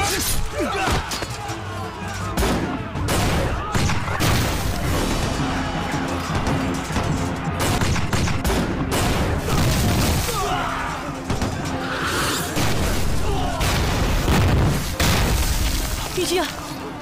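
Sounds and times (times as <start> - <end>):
dramatic background music: 0.0 - 17.0.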